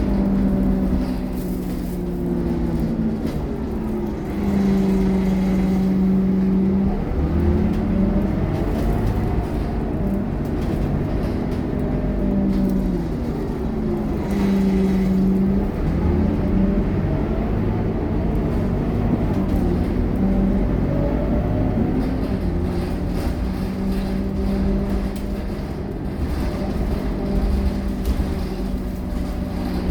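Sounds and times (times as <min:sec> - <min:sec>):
bus diesel engine accelerating: 0:00.0 - 0:29.9.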